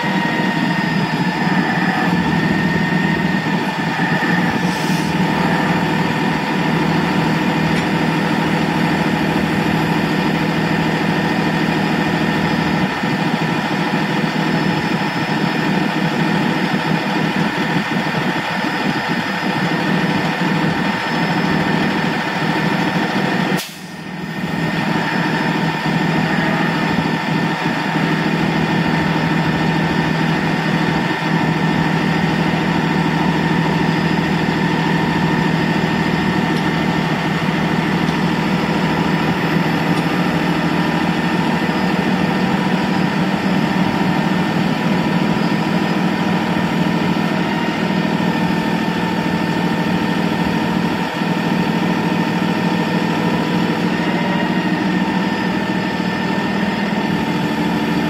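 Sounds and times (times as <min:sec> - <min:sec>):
hydraulic whine: 0:00.0 - 0:58.0
truck engine running: 0:00.0 - 0:58.0.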